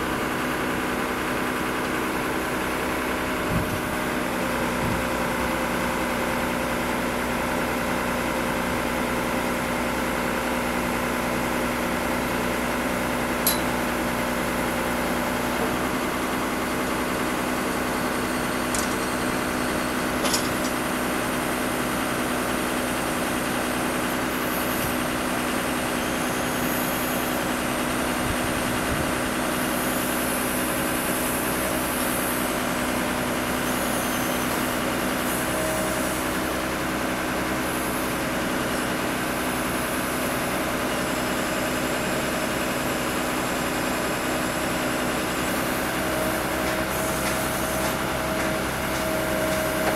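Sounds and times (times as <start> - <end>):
truck engine and hydraulic pump hum: 0.0 - 49.9.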